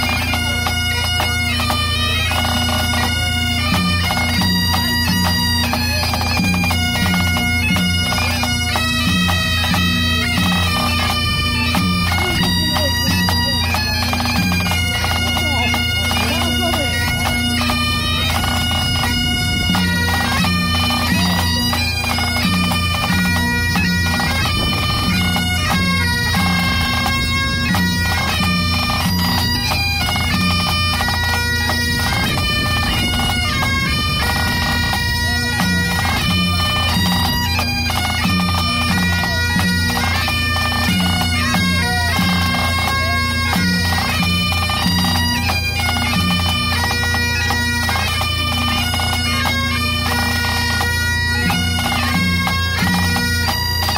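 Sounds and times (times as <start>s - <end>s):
bagpipes playing a tune: 0.0s - 53.9s
tenor drum beating: 0.0s - 53.9s.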